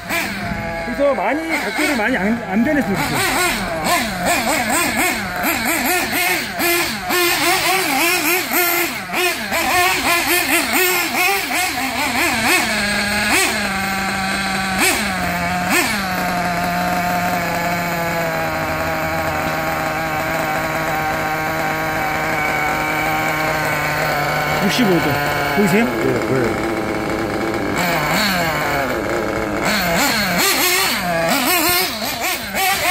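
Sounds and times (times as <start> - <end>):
rc buggy nitro engine revving: 0.0 - 32.9.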